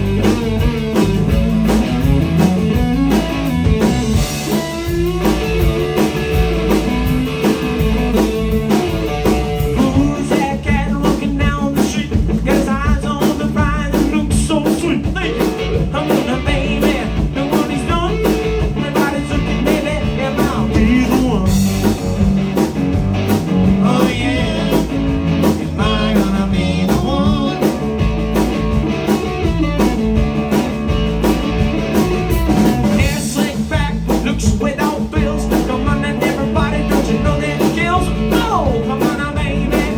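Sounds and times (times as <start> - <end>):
bass: 0.0 - 39.9
drums: 0.0 - 39.9
electric guitar: 0.0 - 39.9.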